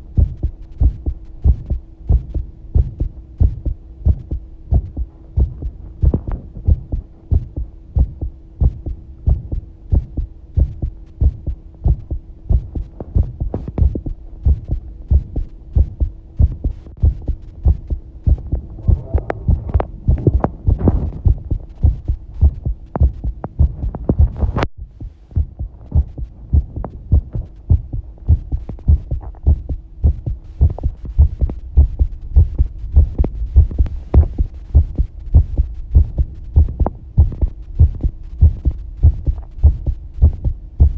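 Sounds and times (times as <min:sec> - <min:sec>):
constant low hum: 0:00.0 - 0:40.9
heartbeat: 0:00.0 - 0:40.9.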